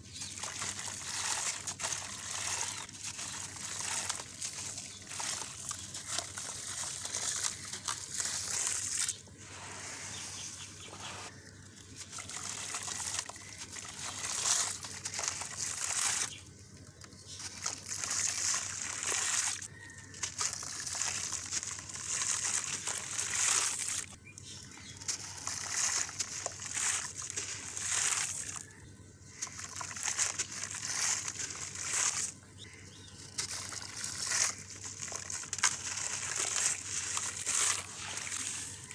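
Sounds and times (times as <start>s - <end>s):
wet gritty crackling and sloshing: 0.1s - 9.3s, 11.3s - 24.2s, 24.9s - 38.9s.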